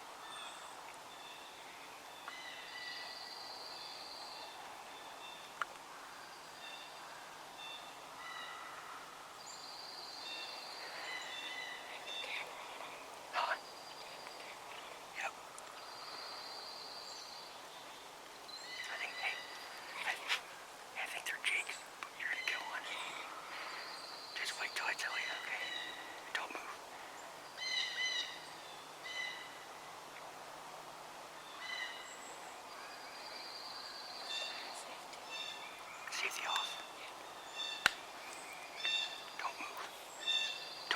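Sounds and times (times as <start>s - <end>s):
outdoor hush: 0.0s - 40.9s
songbirds singing: 0.0s - 40.9s.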